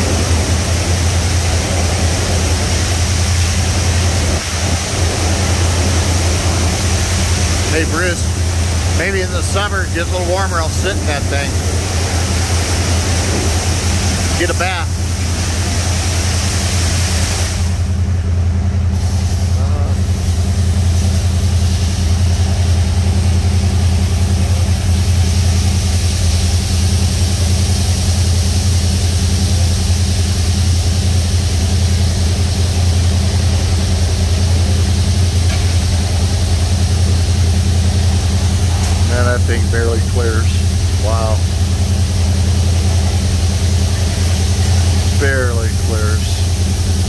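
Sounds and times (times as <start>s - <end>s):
water spray hissing: 0.0s - 18.0s, 18.9s - 47.0s
low machine hum: 0.0s - 47.0s.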